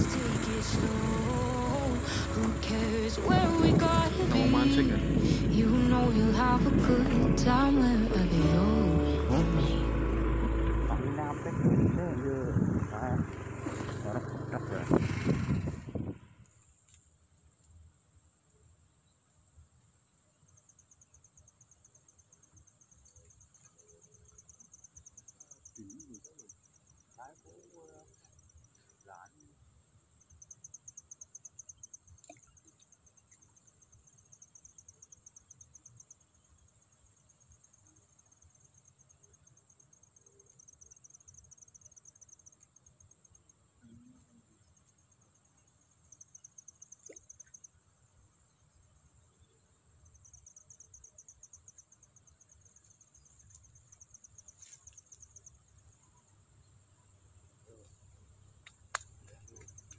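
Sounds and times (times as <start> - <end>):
insect pulsing trill: 0.0 - 6.6, 9.6 - 59.9
insects high-pitched whine: 0.0 - 59.9.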